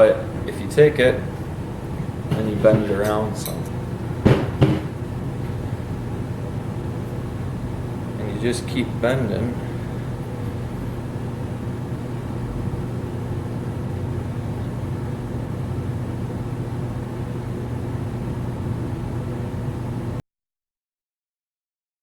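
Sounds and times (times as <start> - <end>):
steady engine-like hum: 0.0 - 20.2.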